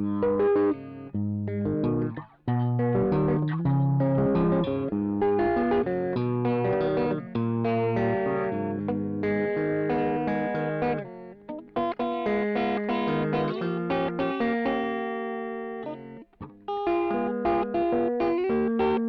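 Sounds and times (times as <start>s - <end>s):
electric guitar with overdrive: 0.0s - 19.0s.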